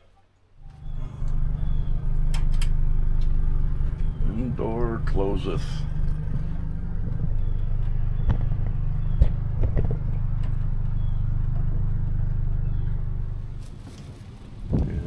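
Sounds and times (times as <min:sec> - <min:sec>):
outboard motor rumble: 0:00.5 - 0:15.0.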